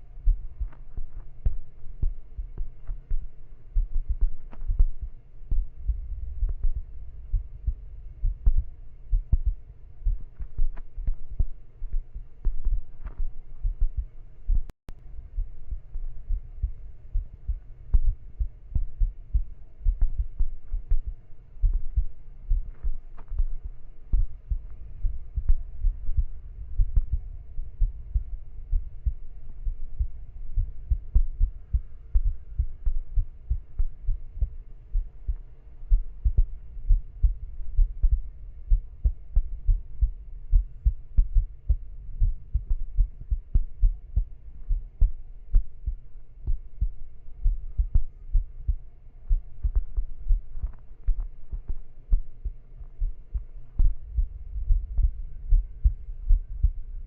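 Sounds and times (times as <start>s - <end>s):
dull low thumps: 0.0s - 57.0s.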